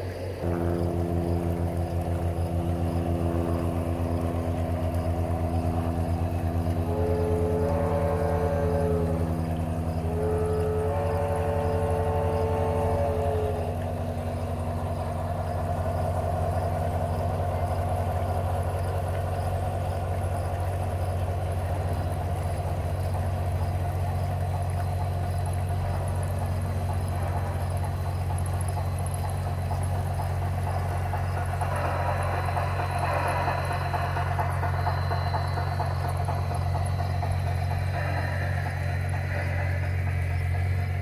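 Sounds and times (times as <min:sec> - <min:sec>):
model steam locomotive whistle: 0:00.0 - 0:18.5, 0:21.6 - 0:41.0
model locomotive low drone: 0:00.0 - 0:41.0.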